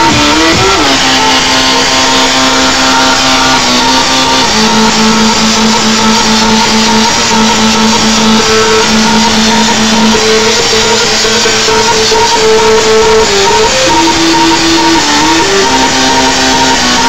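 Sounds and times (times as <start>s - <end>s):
electronic club music: 0.0s - 17.0s
keytar synthesizer lead: 0.0s - 17.0s.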